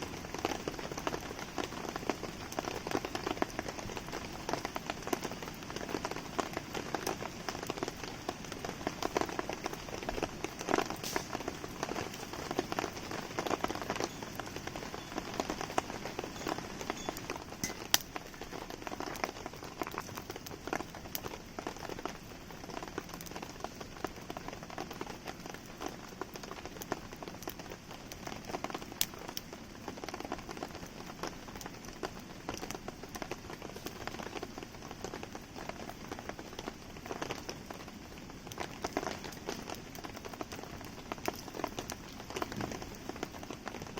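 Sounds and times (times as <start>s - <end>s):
campfire crackling: 0.0s - 43.9s
rain pattering: 0.0s - 43.9s
fire pops: 0.1s - 29.5s, 30.1s - 43.9s.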